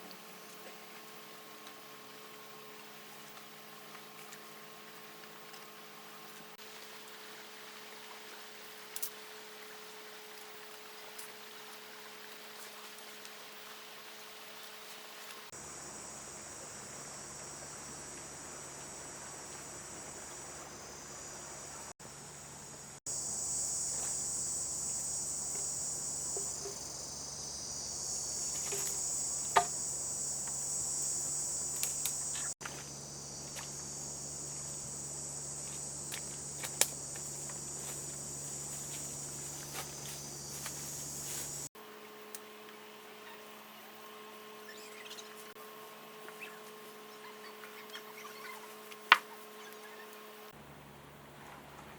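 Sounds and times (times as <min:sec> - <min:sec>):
forest insects chirring: 0:00.4 - 0:50.6.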